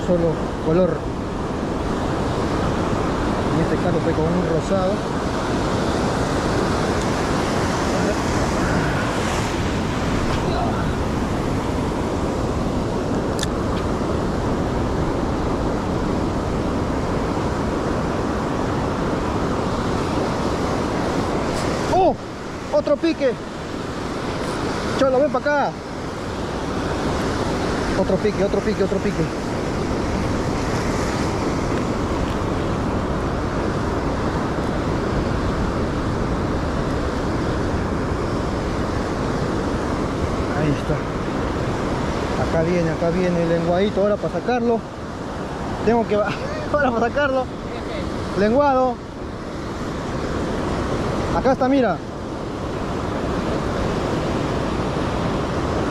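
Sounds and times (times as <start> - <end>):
ocean surf roaring: 0.0 - 55.9
wind buffeting microphone: 0.0 - 55.9.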